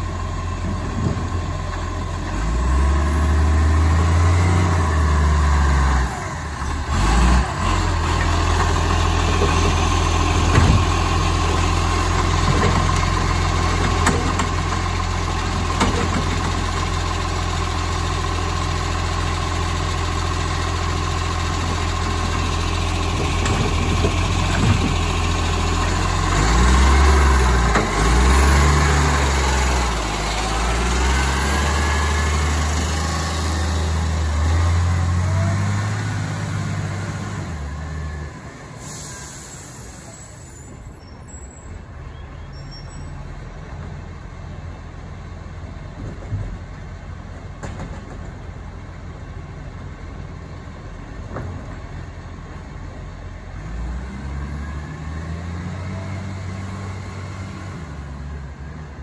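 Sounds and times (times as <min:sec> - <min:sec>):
garbage truck diesel engine: 0:00.0 - 0:59.0.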